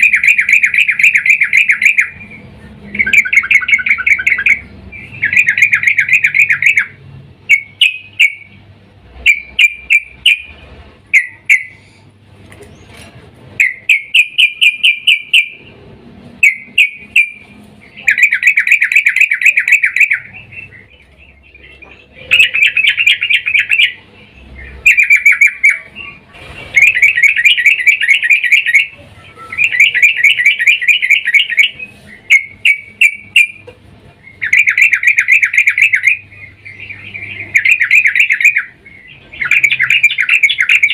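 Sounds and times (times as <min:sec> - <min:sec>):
bird chattering calls: 0:00.0 - 0:15.8, 0:16.4 - 0:40.9.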